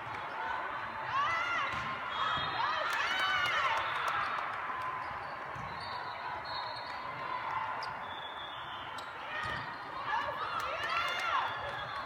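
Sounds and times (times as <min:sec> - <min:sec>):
crowd din in gym: 0:00.0 - 0:12.0.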